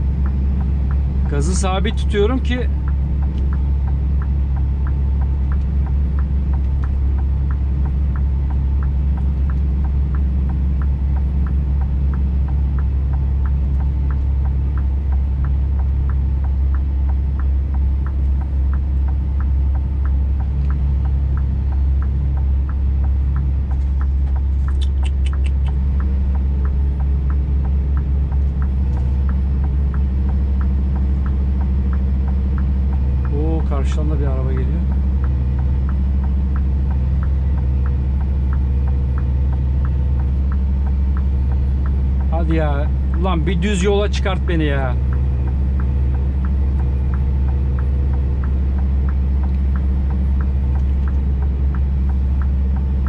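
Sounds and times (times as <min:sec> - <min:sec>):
diesel truck engine droning: 0:00.0 - 0:53.0.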